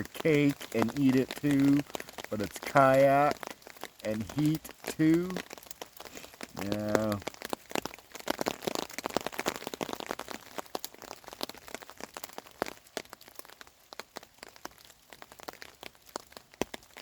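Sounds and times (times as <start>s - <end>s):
raindrops pattering on a tarp: 0.0s - 17.0s.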